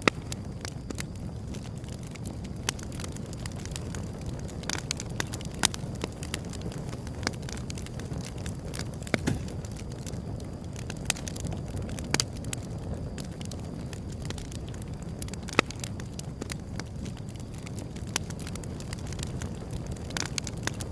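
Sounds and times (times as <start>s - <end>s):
fire crackling and popping: 0.0s - 20.9s
wood fire burning: 0.0s - 20.9s.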